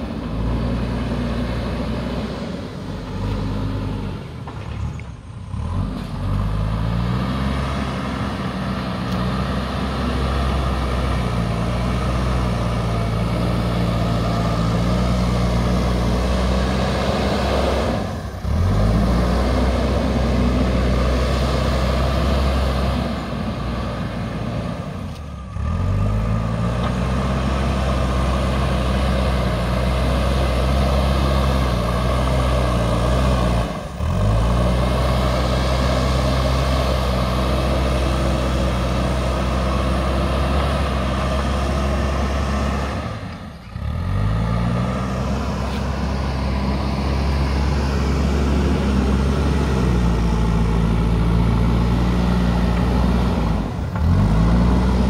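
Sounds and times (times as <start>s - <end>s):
diesel engine running: 0.0s - 55.0s
loader bucket pushing soil: 0.0s - 55.0s.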